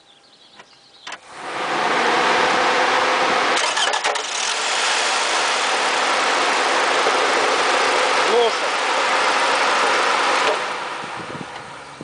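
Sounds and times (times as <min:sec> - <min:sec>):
car engine starting and running: 0:00.6 - 0:12.0.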